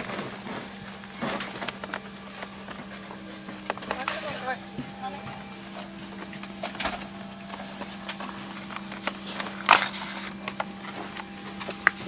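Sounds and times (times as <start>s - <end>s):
aircraft cabin hum: 0.0s - 12.0s
knocks and rustles: 0.0s - 12.0s.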